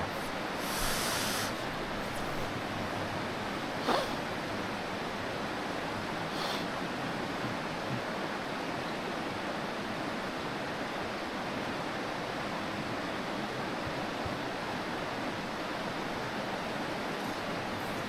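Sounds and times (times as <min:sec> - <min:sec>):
stream water flowing: 0:00.0 - 0:18.0.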